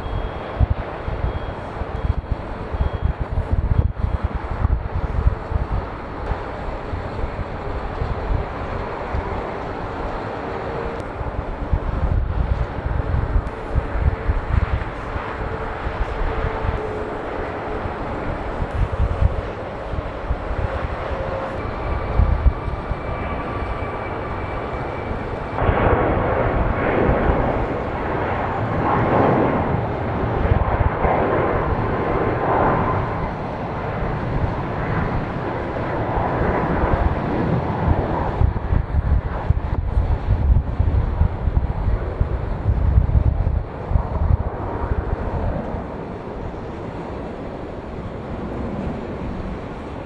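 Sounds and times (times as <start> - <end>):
jet engines at takeoff: 0.0 - 50.0
wind rumble on microphone: 0.0 - 50.0.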